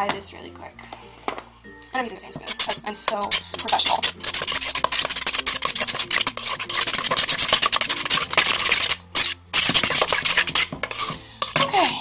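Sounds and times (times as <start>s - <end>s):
spoon scraping metal bowl: 2.3s - 12.0s.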